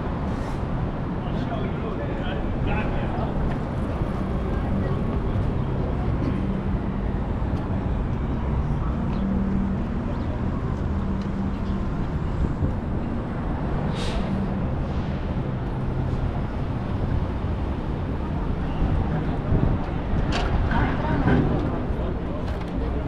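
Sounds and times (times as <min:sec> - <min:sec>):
street traffic: 0:00.0 - 0:23.0
vehicle engine drone: 0:02.7 - 0:23.0.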